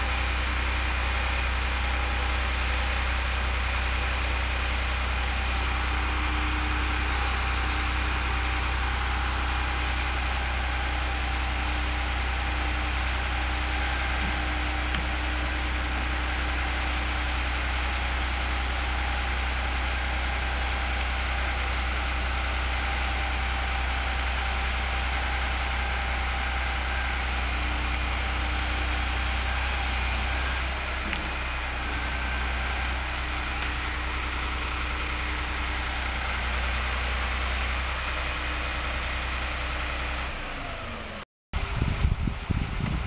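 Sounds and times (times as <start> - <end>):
truck engine deep rumble: 0.0 - 43.0.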